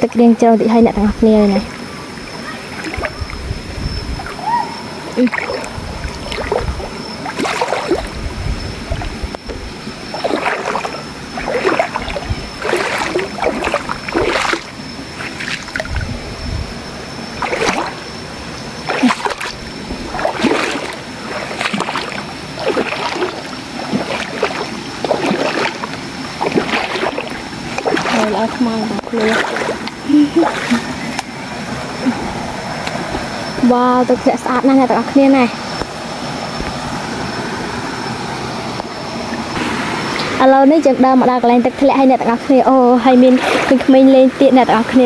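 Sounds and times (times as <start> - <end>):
running water: 0.0 - 45.0
feet splashing through stream: 1.6 - 3.5, 4.2 - 34.6, 38.9 - 40.6, 43.0 - 45.0.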